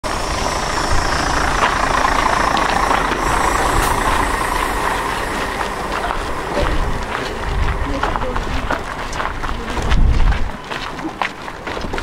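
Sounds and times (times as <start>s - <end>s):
bus engine running: 0.0s - 10.6s.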